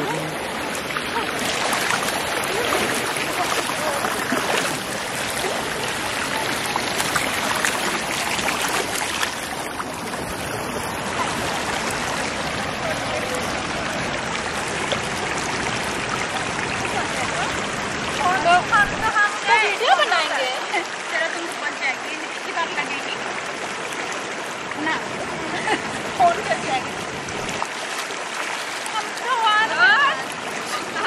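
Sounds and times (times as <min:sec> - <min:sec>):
stream water running over rock: 0:00.0 - 0:31.0.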